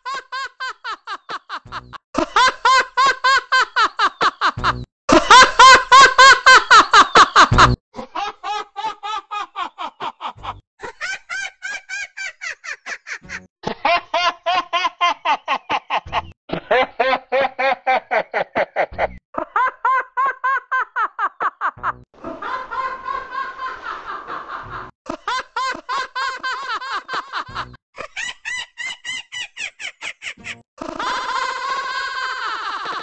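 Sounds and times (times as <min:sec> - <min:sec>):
cartoon character laughing: 0:00.0 - 0:22.0, 0:24.5 - 0:33.0.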